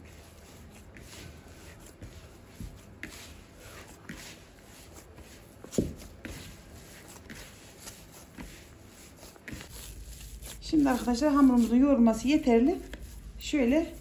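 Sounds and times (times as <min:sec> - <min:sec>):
hands kneading dough: 0:00.0 - 0:14.0.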